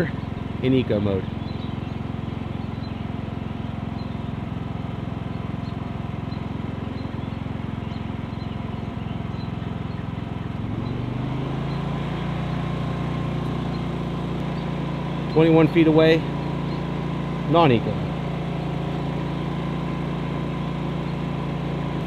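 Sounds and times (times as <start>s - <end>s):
generator running: 0.0s - 22.0s.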